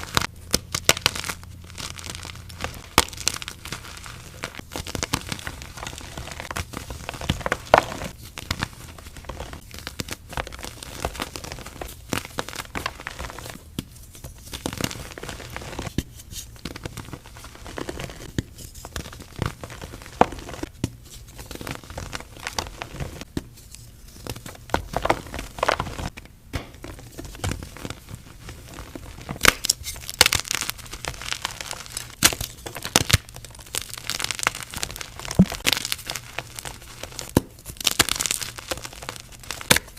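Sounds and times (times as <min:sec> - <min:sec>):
chalk crunching and crackling: 0:00.0 - 0:26.1, 0:26.8 - 0:39.9.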